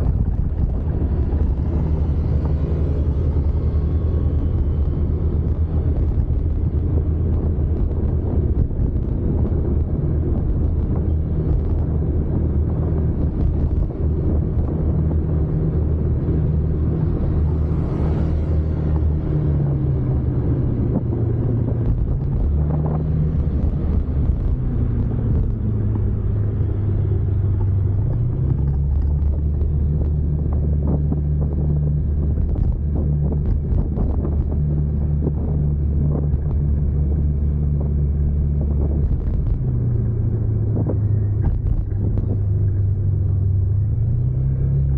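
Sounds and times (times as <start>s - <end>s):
road and wind noise: 0.0s - 44.9s
vehicle engine running: 0.0s - 44.9s.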